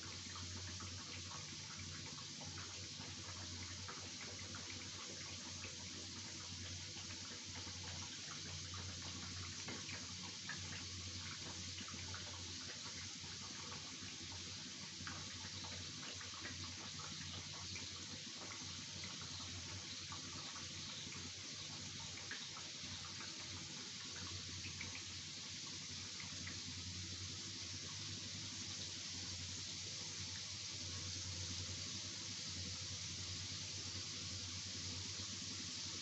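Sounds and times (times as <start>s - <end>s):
food deep-frying in oil: 0.0s - 36.0s.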